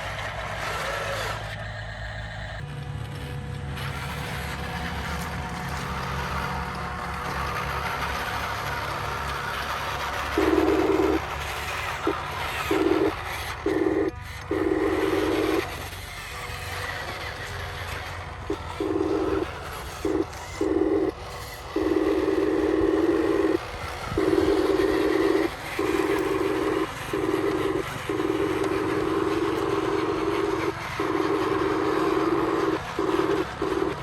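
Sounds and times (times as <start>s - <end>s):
electric motors whining: 0.0s - 34.0s
steady low hum: 0.0s - 34.0s.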